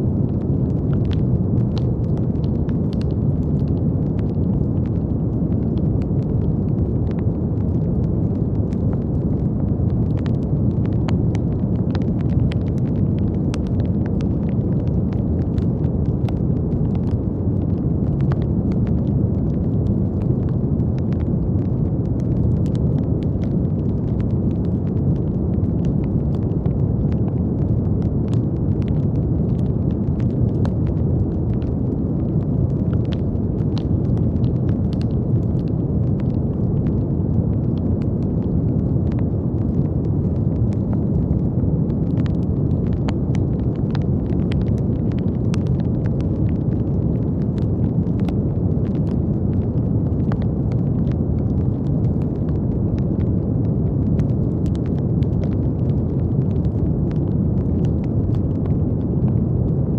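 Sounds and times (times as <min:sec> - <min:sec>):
brown noise: 0:00.0 - 0:59.9
faint crackles: 0:00.0 - 0:59.9.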